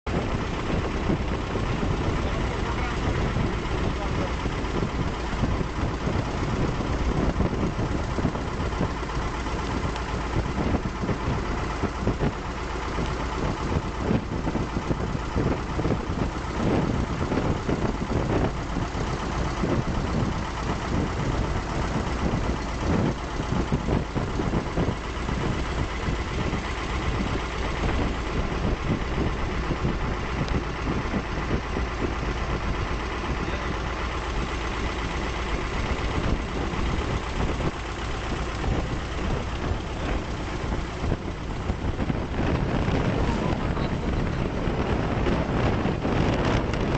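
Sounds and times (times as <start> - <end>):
motorboat engine droning: 0.0 - 46.9.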